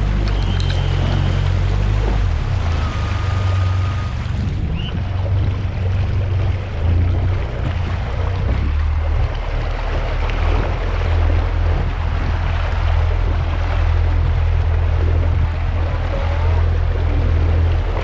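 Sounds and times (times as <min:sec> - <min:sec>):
outboard motor droning: 0:00.0 - 0:18.0
water rushing: 0:00.0 - 0:18.0
wind: 0:00.0 - 0:18.0.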